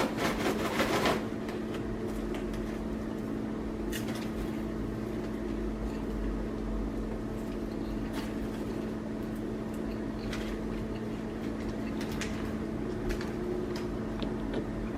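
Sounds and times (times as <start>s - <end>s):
microwave oven humming: 0.0s - 14.9s
popcorn popping: 0.0s - 14.9s.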